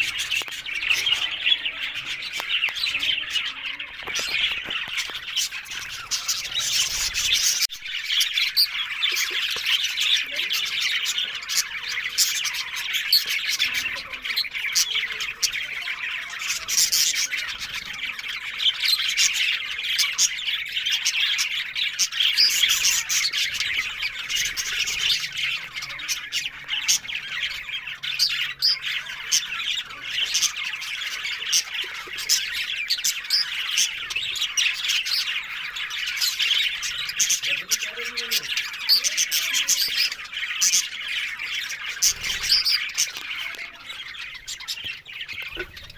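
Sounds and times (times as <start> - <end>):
budgerigars chattering: 0.0 - 45.9.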